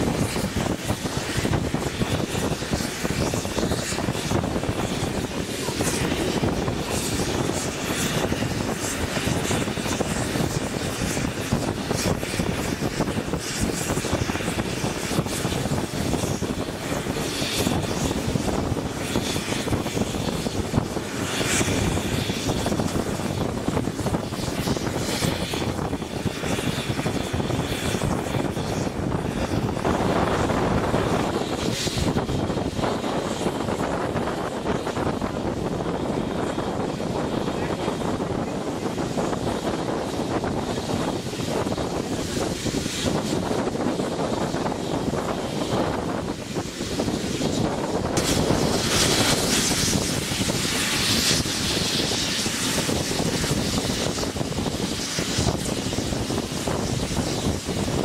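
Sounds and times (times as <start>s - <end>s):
rushing wind: 0.0s - 58.0s
train wheels rumbling on rails: 0.0s - 58.0s.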